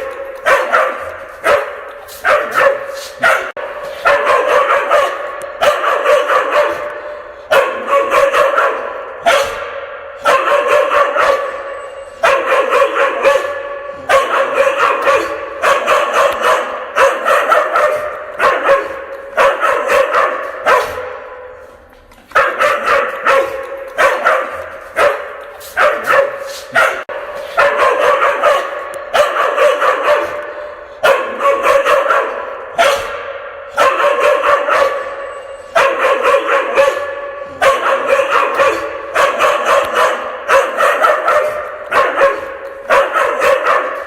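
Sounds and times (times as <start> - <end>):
large dog barking: 0.0 - 44.0.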